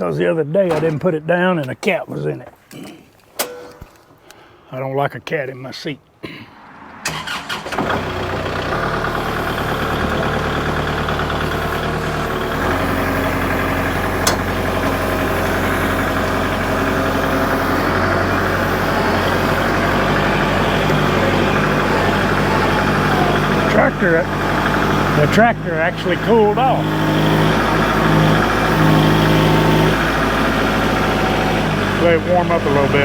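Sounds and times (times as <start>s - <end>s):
diesel engine starting and idling: 0.0s - 2.0s, 6.5s - 33.0s.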